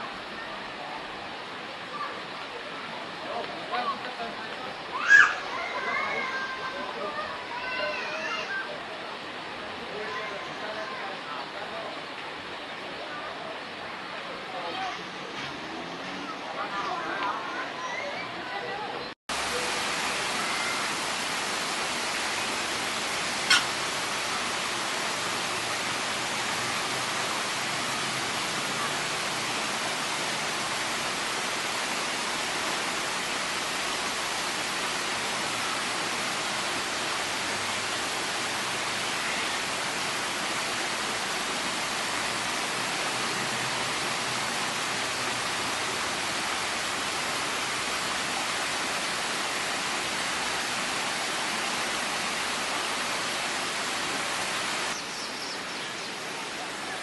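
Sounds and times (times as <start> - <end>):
rushing falling water: 0.0 - 57.0.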